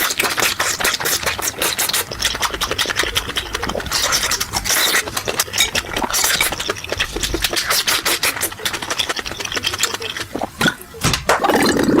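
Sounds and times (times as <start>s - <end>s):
chewing and mouth smacks: 0.0s - 12.0s.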